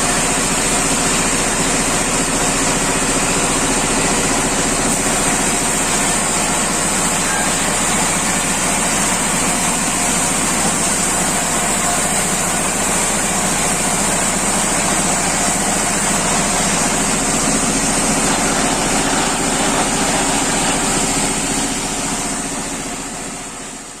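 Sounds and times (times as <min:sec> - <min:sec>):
sawmill machine whining: 0:00.0 - 0:24.0.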